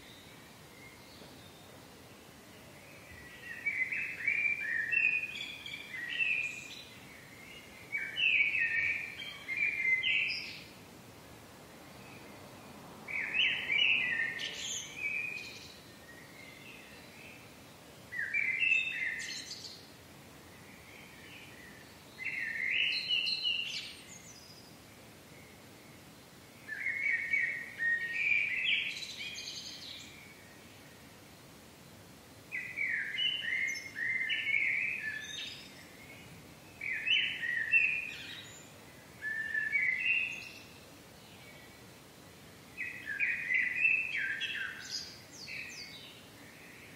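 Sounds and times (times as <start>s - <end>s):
faint outdoor background noise: 0.0s - 46.9s.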